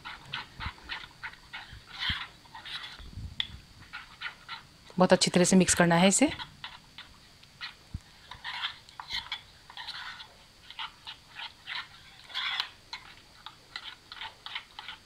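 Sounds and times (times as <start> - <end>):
metal spoon scraping thick paste: 0.0 - 3.1, 3.8 - 4.7, 5.3 - 15.0.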